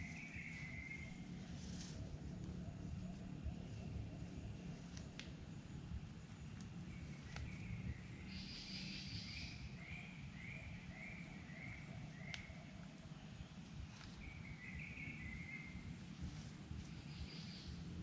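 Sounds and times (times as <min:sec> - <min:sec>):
bird calling: 0:00.0 - 0:04.3, 0:06.9 - 0:18.0
low outdoor rumble: 0:00.0 - 0:18.0.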